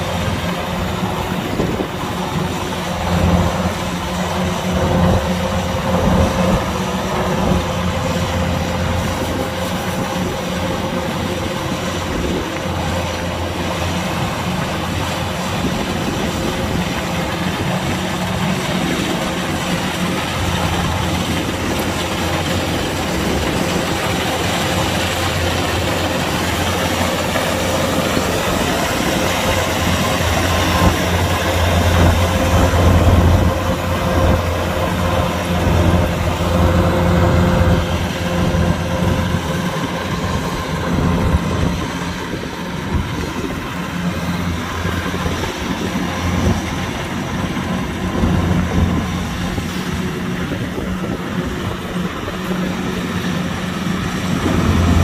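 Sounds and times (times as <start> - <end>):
diesel engine drone: 0.0 - 55.0
mechanical wash: 0.0 - 55.0.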